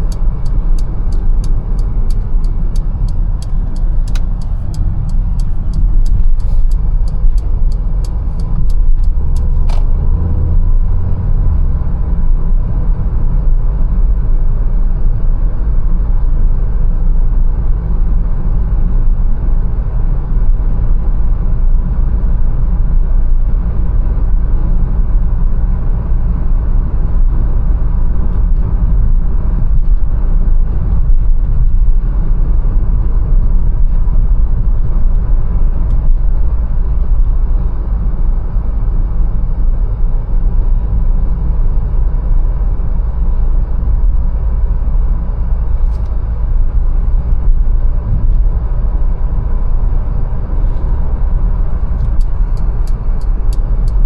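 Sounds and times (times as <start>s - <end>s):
car engine rumble: 0.0s - 54.0s
tyre road noise: 0.0s - 54.0s.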